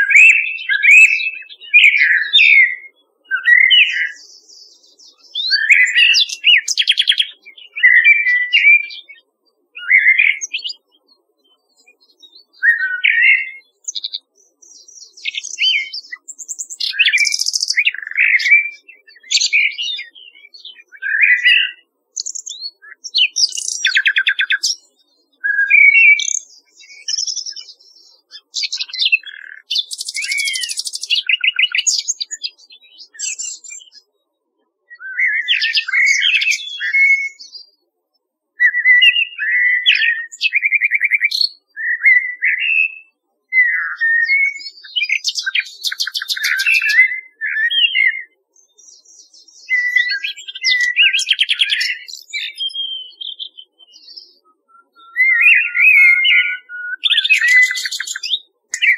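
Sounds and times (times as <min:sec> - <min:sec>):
birdsong with whistles and trills: 0:00.0 - 0:58.9.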